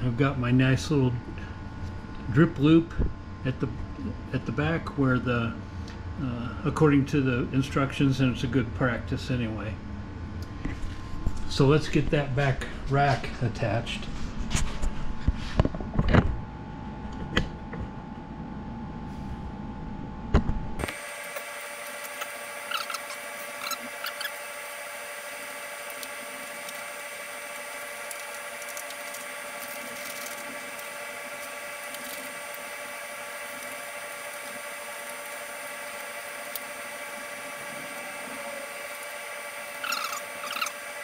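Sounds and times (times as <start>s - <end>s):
steady tonal hum: 0.0s - 41.0s.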